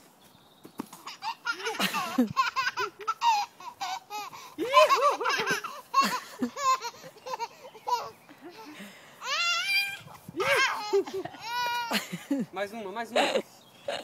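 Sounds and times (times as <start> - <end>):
small child laughing: 1.0 - 12.4.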